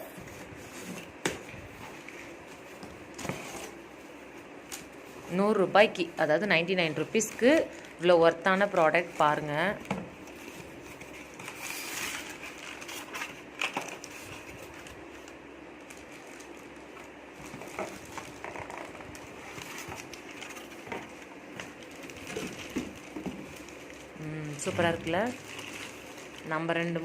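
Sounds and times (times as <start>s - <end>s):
packaging rustling and crinkling: 0.0s - 27.0s.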